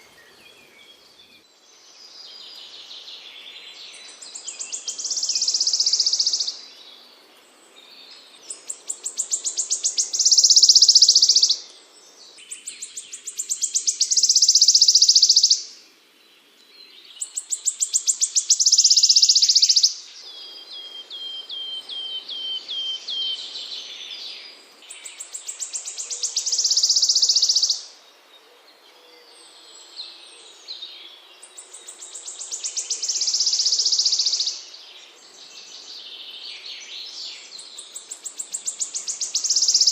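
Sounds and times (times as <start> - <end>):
songbird trilling song: 0.0 - 7.1, 7.8 - 15.8, 16.6 - 39.9.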